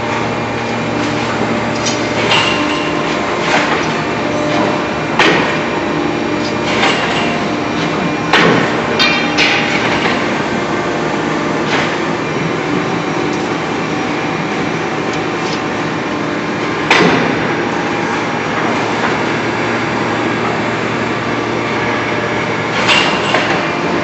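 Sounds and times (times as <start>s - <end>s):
forging machine noise: 0.0s - 24.0s.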